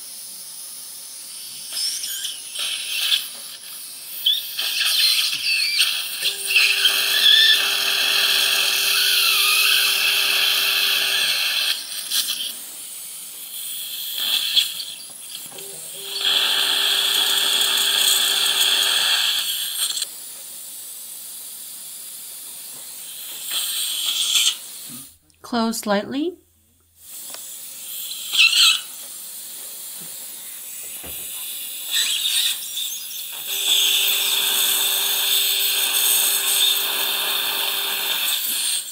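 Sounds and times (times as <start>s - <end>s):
dental drill hum and hiss: 0.0s - 25.1s, 27.0s - 38.9s.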